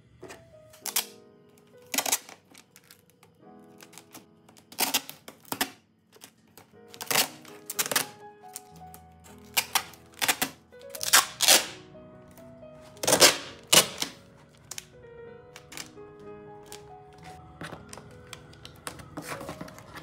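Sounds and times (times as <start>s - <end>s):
soft background music: 0.0s - 20.0s
cardboard clicking and crackling: 0.2s - 11.8s, 12.9s - 14.9s, 15.5s - 16.0s, 16.6s - 20.0s.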